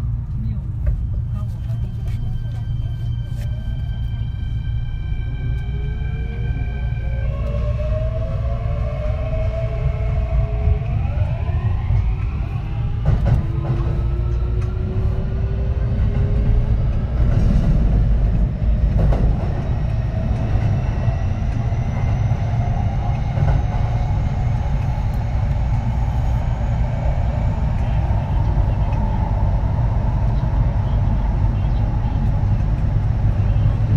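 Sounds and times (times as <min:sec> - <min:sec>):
rumble of wheels on track: 0:00.0 - 0:33.9.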